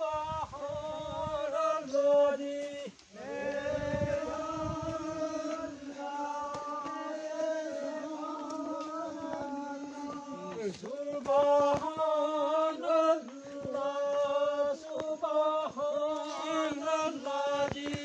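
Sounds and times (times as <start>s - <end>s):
person singing a chant: 0.0s - 18.0s.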